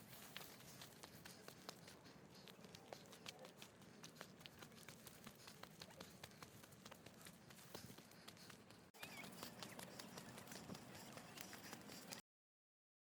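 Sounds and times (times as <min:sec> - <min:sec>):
footsteps crunching on a trail: 0:00.0 - 0:12.2.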